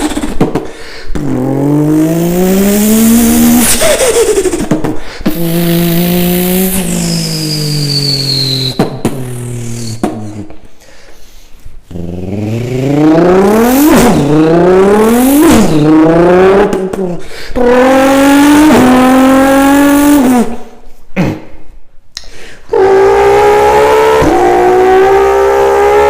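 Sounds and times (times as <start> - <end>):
person imitating car engine: 0.0 - 10.6, 11.9 - 21.5, 22.2 - 26.0.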